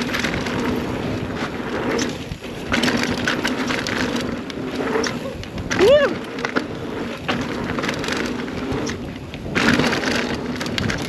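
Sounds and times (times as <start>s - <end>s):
bike clicking and rattling: 0.0s - 11.0s
tyre and trail noise: 0.0s - 11.0s.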